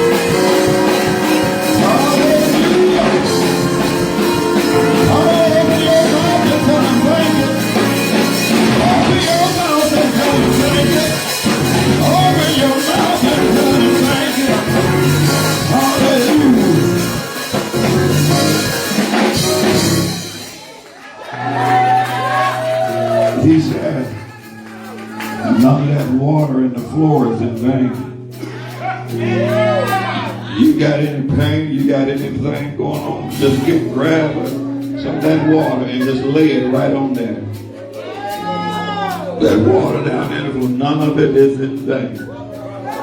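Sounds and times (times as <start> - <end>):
church band music with singing: 0.0 - 43.0.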